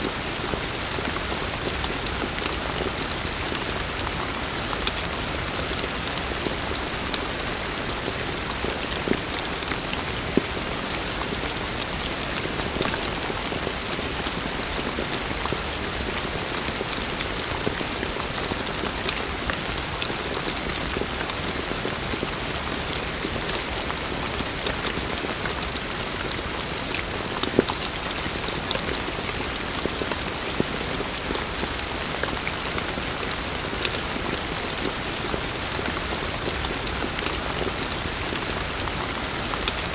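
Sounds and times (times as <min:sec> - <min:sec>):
heavy rain falling: 0:00.0 - 0:39.9
raindrops striking a surface: 0:00.0 - 0:39.9.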